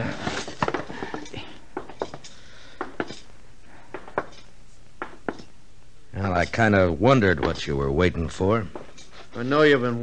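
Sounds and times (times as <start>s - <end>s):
recording hiss: 0.0s - 10.0s.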